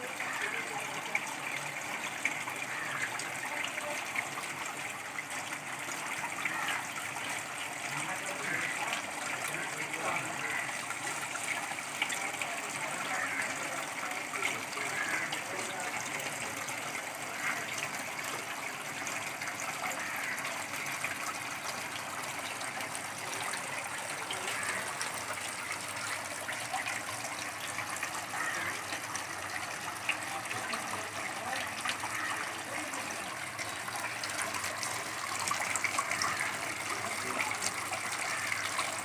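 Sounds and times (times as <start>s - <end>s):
fountain water splashing: 0.0s - 39.0s.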